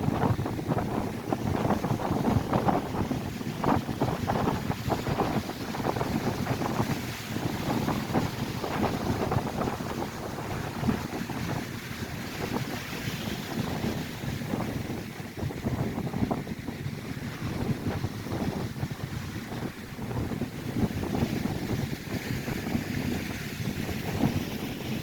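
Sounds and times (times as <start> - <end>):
gusty wind on microphone: 0.0 - 25.0
lake waves breaking on shore: 0.0 - 25.0.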